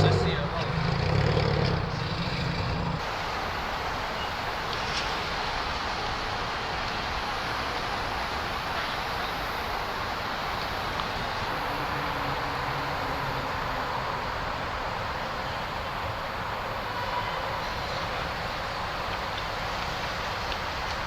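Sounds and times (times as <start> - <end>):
traffic rushing: 0.0 - 21.0.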